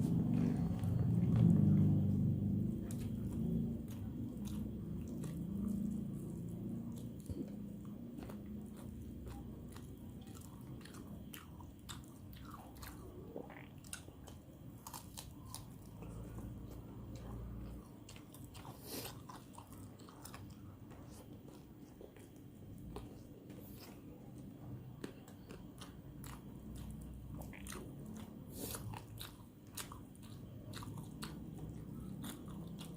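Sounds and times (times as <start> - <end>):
person chewing crunchy food: 0.0 - 32.9.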